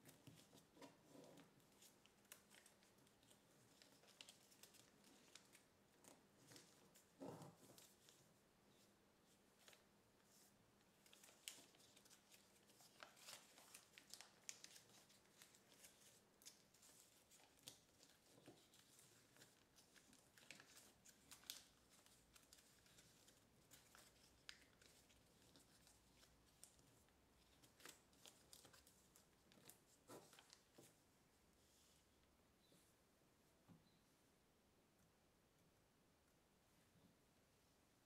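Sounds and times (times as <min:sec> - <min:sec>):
paper rustling and crinkling: 0:00.0 - 0:31.0.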